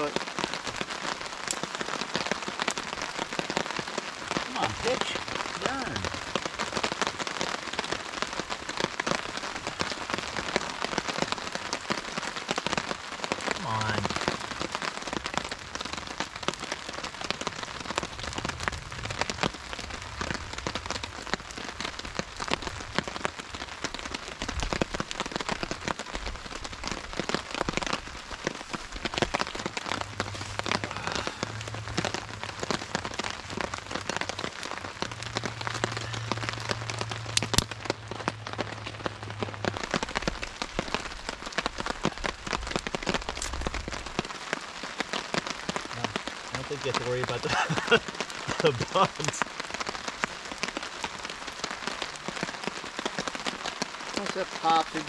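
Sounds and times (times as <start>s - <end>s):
rain on a tarp: 0.0s - 55.0s.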